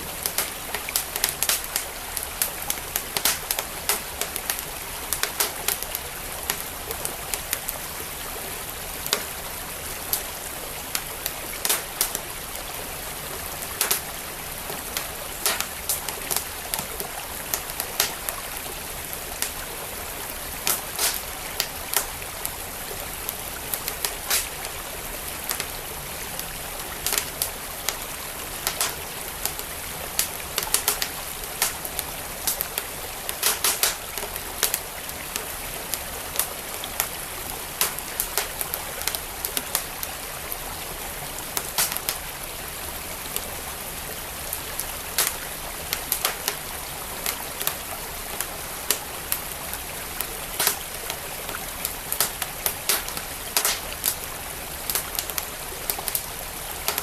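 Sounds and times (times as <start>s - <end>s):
stream water flowing: 0.0s - 57.0s
wood fire crackling: 0.0s - 57.0s.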